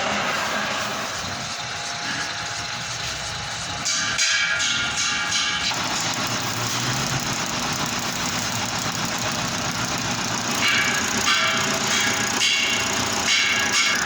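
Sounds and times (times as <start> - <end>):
high-pitched ringing squeals: 0.0 - 14.0
metal lathe running: 0.0 - 14.0.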